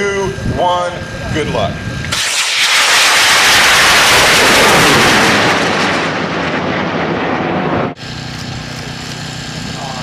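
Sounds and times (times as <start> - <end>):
rocket motors rushing: 1.9 - 10.0.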